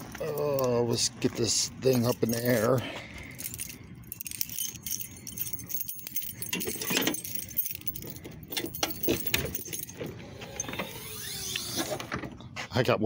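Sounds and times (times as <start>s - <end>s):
keys jangling on a keyring: 0.0s - 10.7s.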